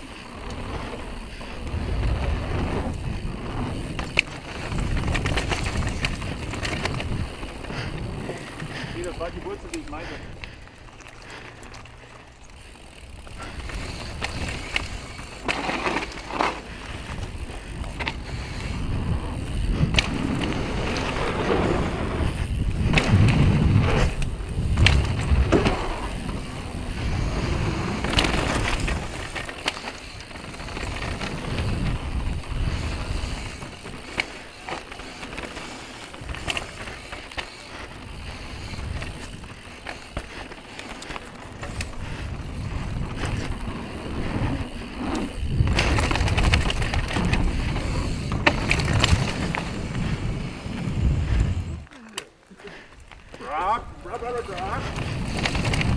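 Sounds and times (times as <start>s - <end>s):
bike rattling over bumps: 0.0s - 55.9s
tyres over dirt and stones: 0.0s - 55.9s.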